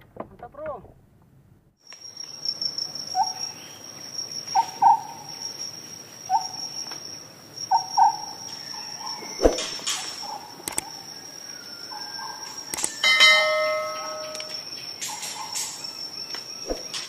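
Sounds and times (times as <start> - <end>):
high-pitched insect trill: 1.8 - 17.0.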